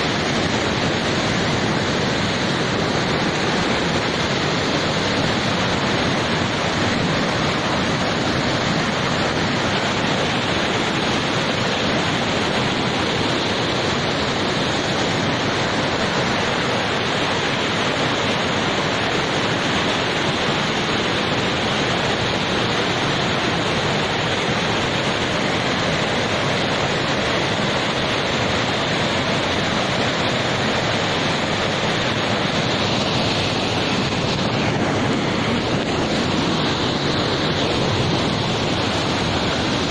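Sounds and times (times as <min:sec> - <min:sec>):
floodwater rushing over rocks: 0:00.0 - 0:39.9.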